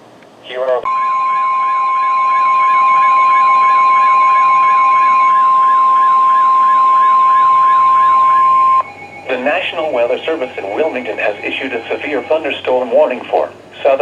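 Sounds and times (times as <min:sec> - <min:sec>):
faint wavering warble: 0:00.9 - 0:13.1
steady alarm beep: 0:00.9 - 0:13.3.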